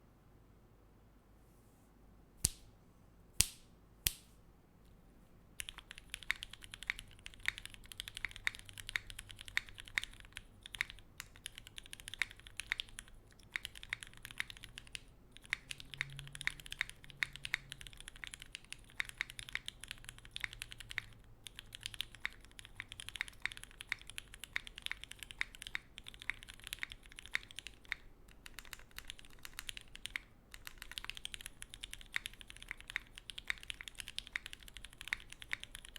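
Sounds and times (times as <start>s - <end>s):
mechanical keyboard typing: 5.6s - 35.9s.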